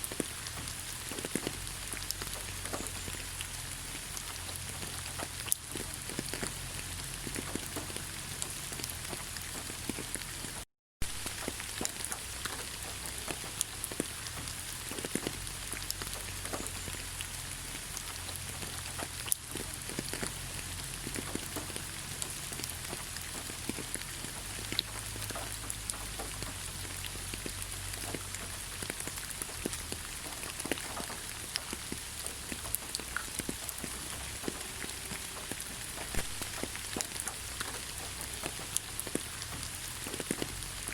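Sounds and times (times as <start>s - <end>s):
rain falling in forest: 0.0s - 40.9s
raindrops tapping: 0.0s - 40.9s.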